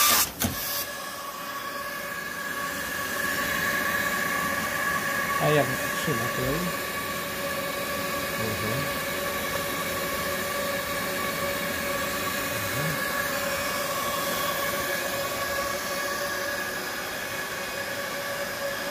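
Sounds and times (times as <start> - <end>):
multi-tone machine whine: 0.0 - 18.9.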